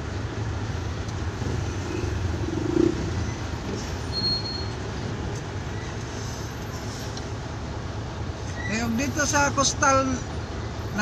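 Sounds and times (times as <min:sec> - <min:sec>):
diesel engine idling: 0:00.0 - 0:11.0
street traffic: 0:00.0 - 0:11.0.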